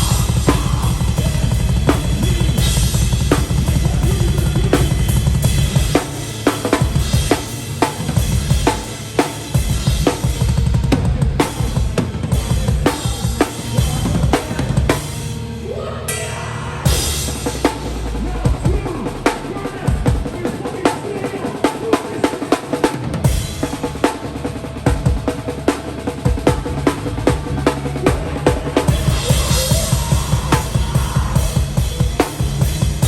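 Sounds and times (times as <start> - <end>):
fast drum kit hits: 0.0 - 15.2, 16.9 - 33.0
metal band playing live: 0.0 - 33.0.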